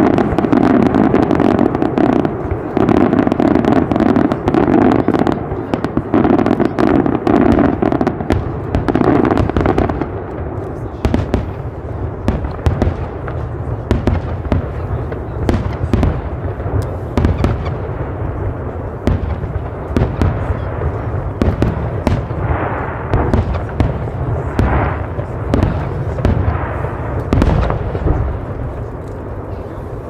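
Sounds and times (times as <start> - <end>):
fireworks bangs and booms: 0.0 - 30.0
fireworks crackling hiss: 0.0 - 30.0.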